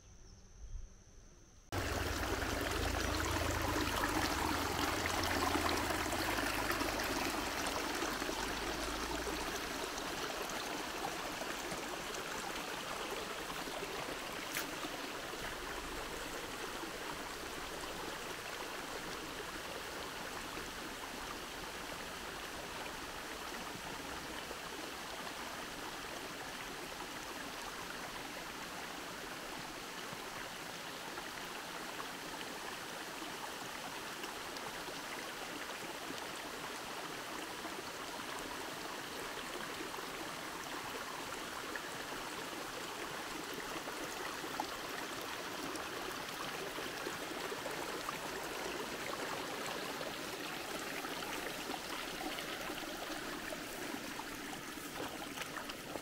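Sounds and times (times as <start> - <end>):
running water rushing: 1.7 - 56.0.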